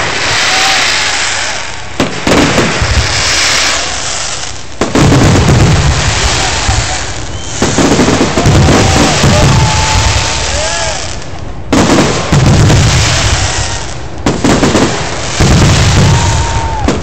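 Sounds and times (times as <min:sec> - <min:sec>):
fireworks bangs: 0:00.0 - 0:17.0
fireworks crackling hiss: 0:00.0 - 0:17.0
rumbling echo: 0:00.0 - 0:17.0.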